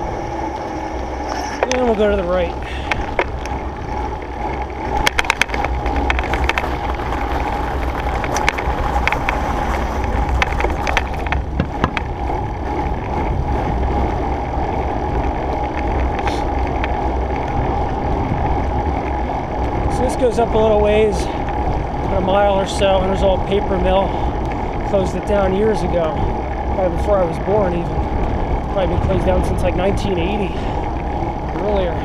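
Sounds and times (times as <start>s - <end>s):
bike clicks and rattles: 0.0s - 32.0s
bike tyres rolling: 0.0s - 32.0s
faint steady hum: 0.0s - 32.0s.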